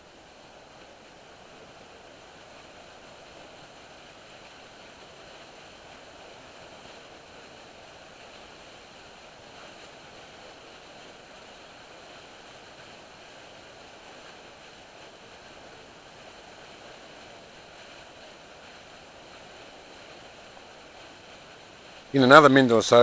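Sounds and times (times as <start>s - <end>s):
faint outdoor background hiss: 0.0s - 23.0s.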